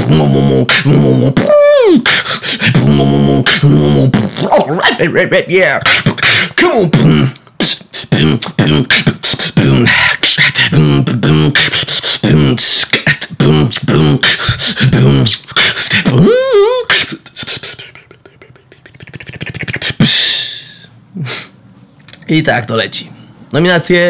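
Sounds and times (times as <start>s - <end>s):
person beatboxing: 0.0s - 21.5s.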